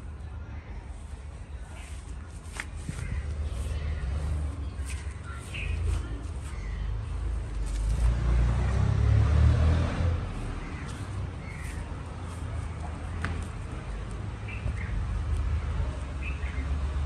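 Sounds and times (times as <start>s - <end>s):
passing vehicle rumble: 2.9s - 17.0s.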